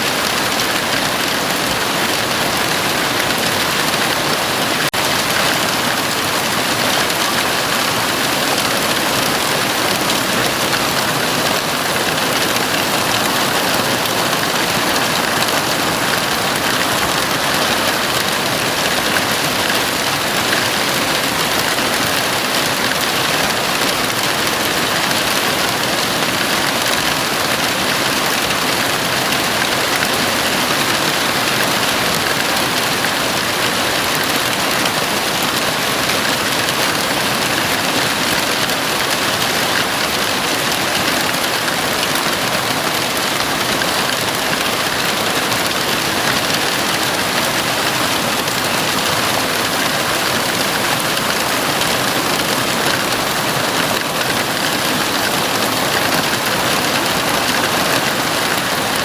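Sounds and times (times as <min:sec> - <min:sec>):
heavy rain on roof: 0:00.0 - 0:59.0.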